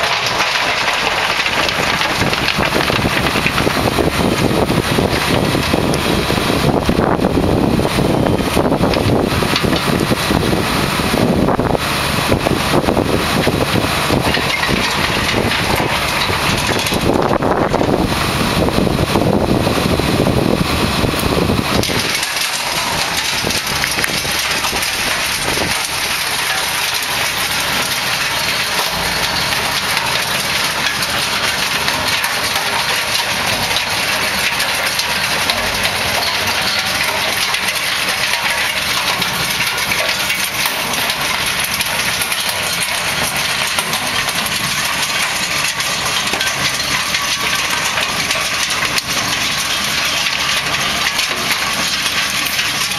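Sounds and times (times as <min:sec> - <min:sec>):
stones clattering against metal: 0:00.0 - 0:06.7, 0:12.7 - 0:18.1, 0:21.7 - 0:52.9
tractor engine under load: 0:00.0 - 0:52.9.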